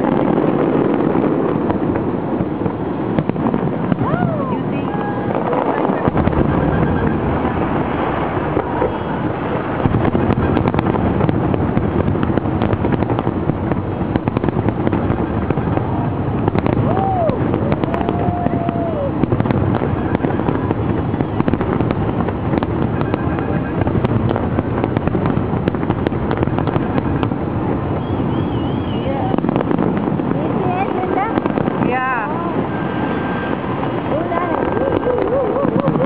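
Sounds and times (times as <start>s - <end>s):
fireworks crackling pops: 0.0s - 36.0s
fireworks rumbling bursts: 0.0s - 36.0s
fireworks whistling: 0.0s - 36.0s.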